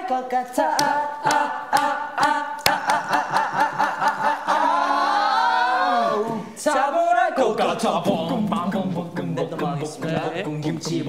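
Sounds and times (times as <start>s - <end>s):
men singing a cappella: 0.1s - 11.0s
sharp rhythmic beats: 0.5s - 4.8s, 6.4s - 11.0s.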